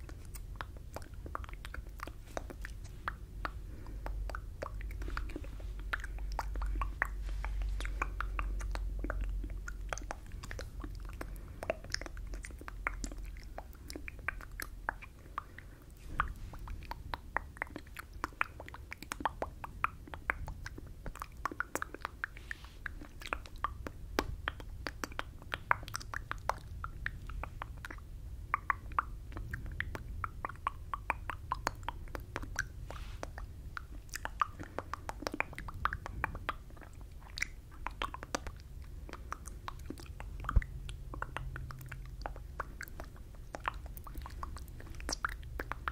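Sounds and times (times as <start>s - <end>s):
wet mouth clicks and lip smacks: 0.0s - 45.9s.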